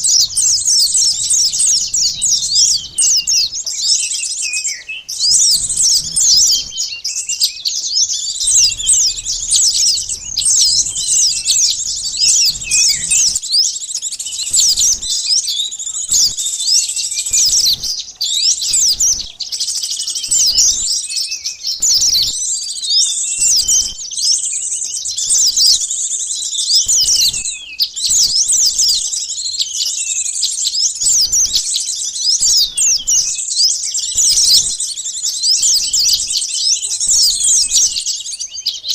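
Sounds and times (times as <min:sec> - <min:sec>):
sunbirds twittering: 0:00.0 - 0:38.9.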